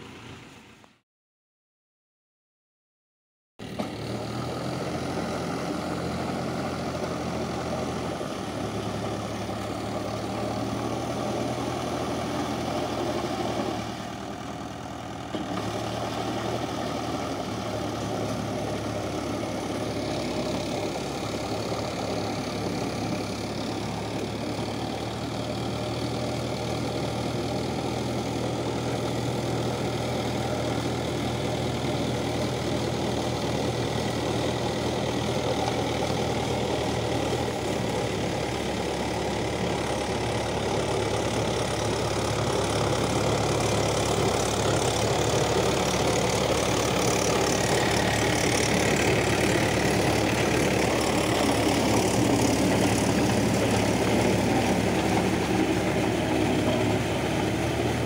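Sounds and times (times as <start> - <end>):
tractor diesel engine running: 3.6 - 58.0.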